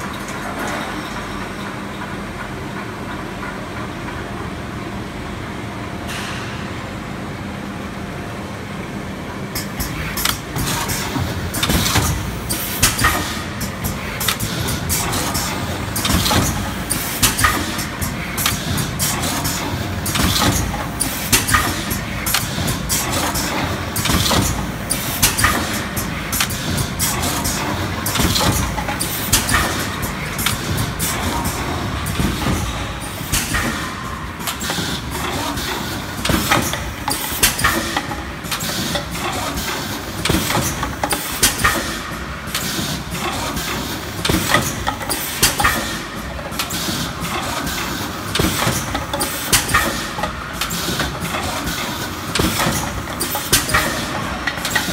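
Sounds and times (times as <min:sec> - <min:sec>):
sharp mechanical clacks and knocks: 0:00.0 - 0:04.5, 0:09.5 - 0:54.9.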